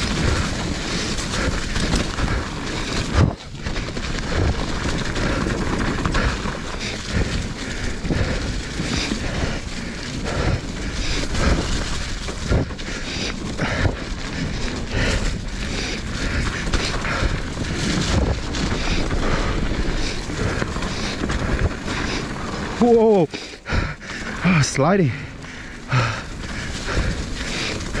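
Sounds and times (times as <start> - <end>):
bike knocking and rattling on rocks: 0.0 - 28.0
bike tyre and trail noise: 0.0 - 28.0
wind buffeting microphone: 0.0 - 28.0.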